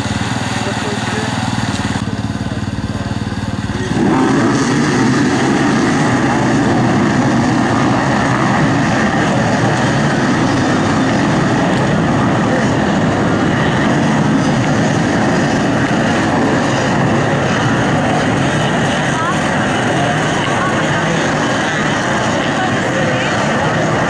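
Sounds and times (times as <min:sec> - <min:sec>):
many dirt bike engines revving: 0:00.0 - 0:24.0.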